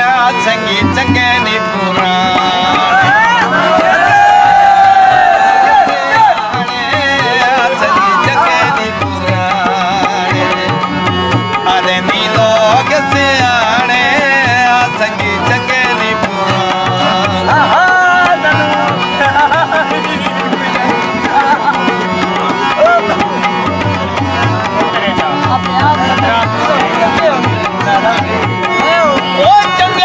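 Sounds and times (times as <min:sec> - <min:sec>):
harmonium chords: 0:00.0 - 0:30.0.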